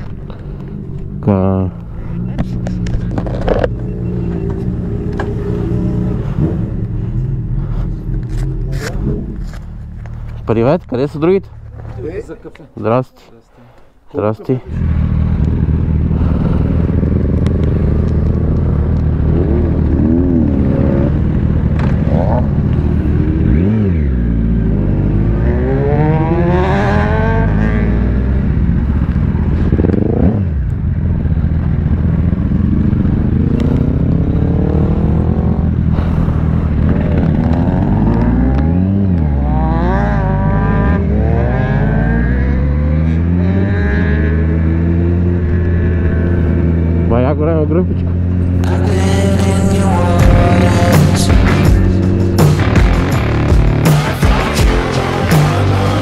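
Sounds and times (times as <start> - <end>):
motorcycle engine accelerating: 0.0 - 12.4, 14.6 - 56.0.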